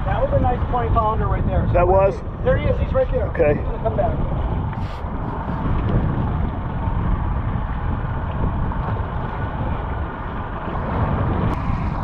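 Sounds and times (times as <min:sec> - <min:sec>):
choppy sea: 0:00.0 - 0:12.0
wind rumbling on microphone: 0:00.0 - 0:12.0.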